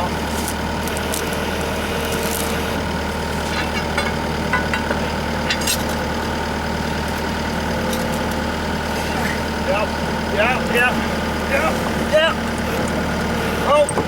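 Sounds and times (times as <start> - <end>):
skid steer engine idling: 0.0 - 14.0.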